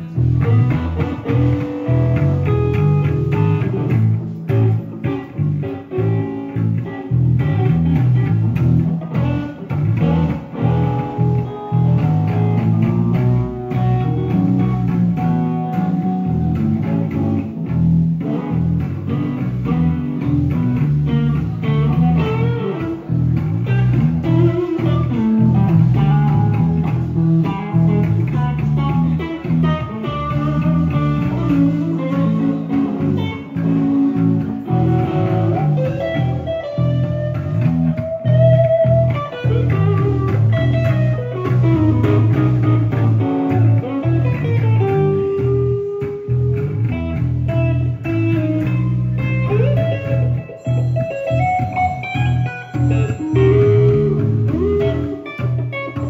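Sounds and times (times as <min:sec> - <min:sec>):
bass guitar line: 0:00.0 - 0:56.0
electric guitar playing: 0:00.0 - 0:56.0.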